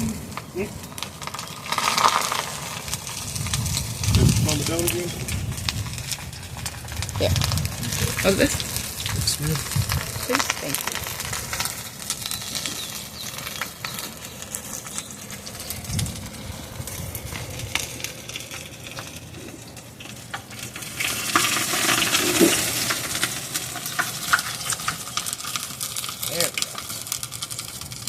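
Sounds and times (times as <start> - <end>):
hissing rush: 0.0 - 27.6
fire crackling and popping: 0.0 - 28.0.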